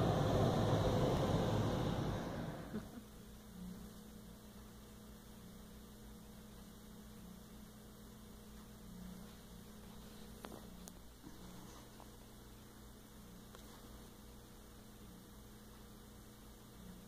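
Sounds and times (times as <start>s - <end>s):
faint low electrical hum: 0.0s - 17.0s.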